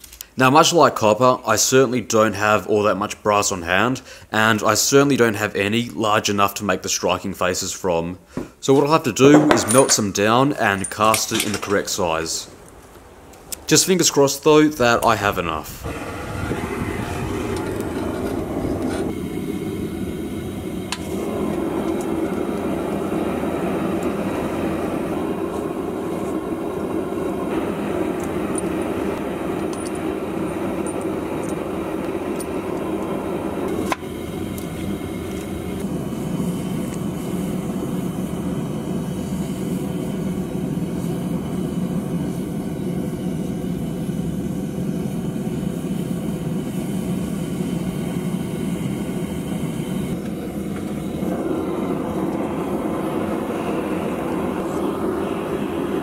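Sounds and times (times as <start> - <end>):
furnace burner rushing: 8.4 - 56.0.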